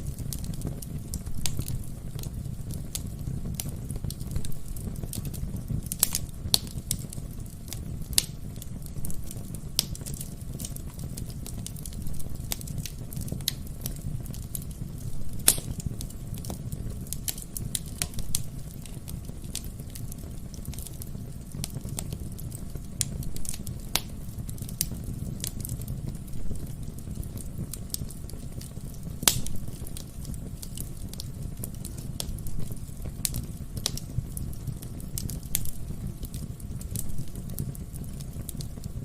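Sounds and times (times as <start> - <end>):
burning logs crackling and popping: 0.0 - 39.0
low rumble of flame: 0.0 - 39.0.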